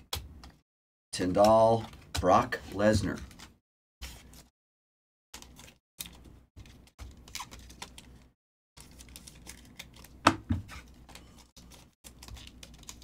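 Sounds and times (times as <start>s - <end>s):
trading cards rustling and clicking: 1.2s - 4.5s, 5.4s - 13.0s.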